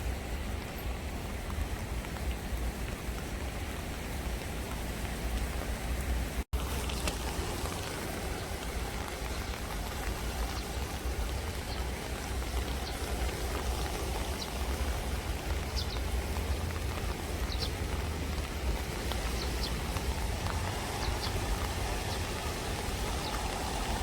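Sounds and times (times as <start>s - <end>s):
flowing stream: 0.0s - 24.0s
steady rain falling: 0.0s - 24.0s.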